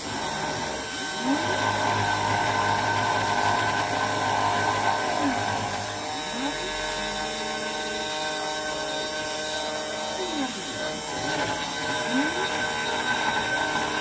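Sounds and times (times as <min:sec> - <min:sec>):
spindle motor whine: 0:00.0 - 0:14.0.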